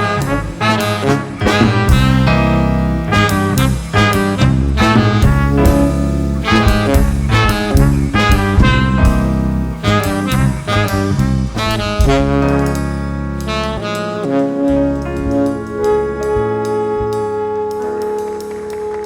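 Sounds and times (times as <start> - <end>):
drum strokes: 0.0 - 17.2
jazz band playing swing: 0.0 - 19.0.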